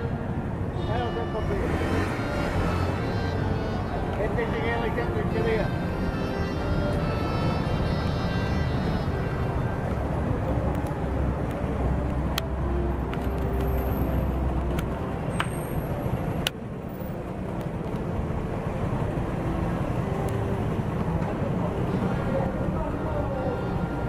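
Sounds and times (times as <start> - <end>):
heavy low engine rumble: 0.0 - 24.0
street traffic: 0.0 - 24.0.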